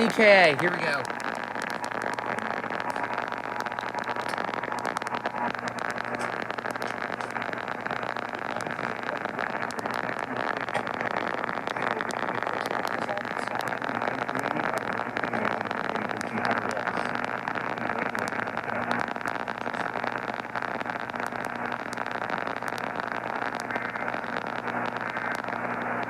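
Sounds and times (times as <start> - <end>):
radio static hiss: 0.0 - 26.0
sharp crackling clicks: 0.0 - 26.0.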